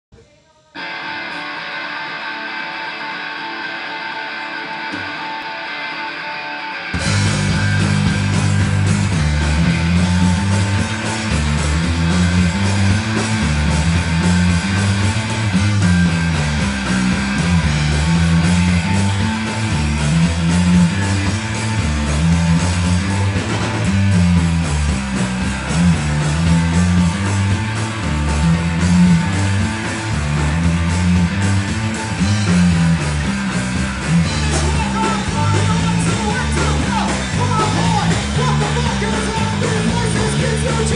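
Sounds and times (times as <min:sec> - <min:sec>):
electric guitar playing: 0:00.7 - 0:40.9
live rock band playing: 0:00.7 - 0:40.9.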